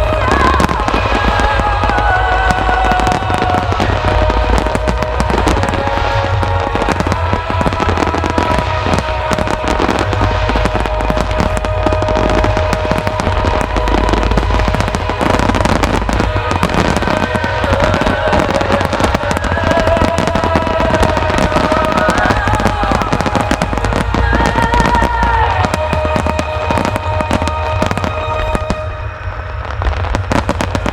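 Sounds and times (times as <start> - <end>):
fireworks bursting and crackling: 0.0 - 30.9
show music: 0.0 - 30.9.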